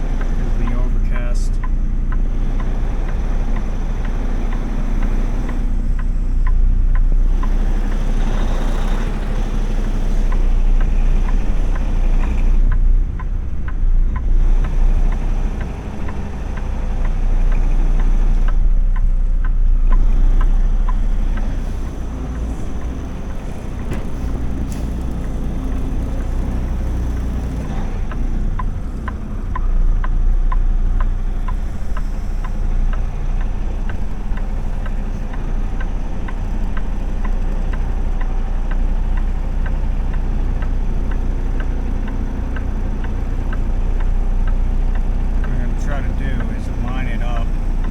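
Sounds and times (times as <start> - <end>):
truck engine and road rumble: 0.0 - 47.9
light ticks: 0.1 - 47.9.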